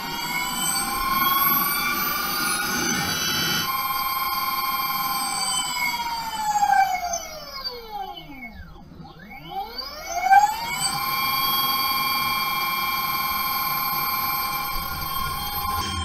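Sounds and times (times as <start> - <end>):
electric hub motor whine: 0.0 - 16.0.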